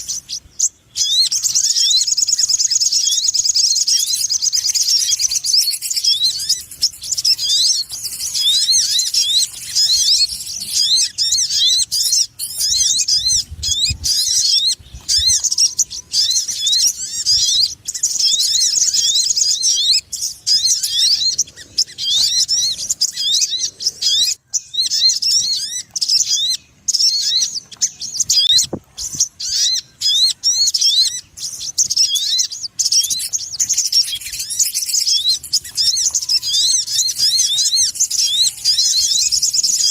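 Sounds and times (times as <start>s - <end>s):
high bird chirping: 0.0s - 39.9s.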